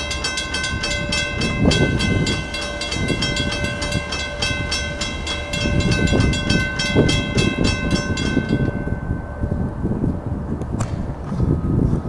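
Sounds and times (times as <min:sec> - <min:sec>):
railroad crossing bell ringing: 0:00.0 - 0:10.6
low rumble: 0:00.0 - 0:12.0.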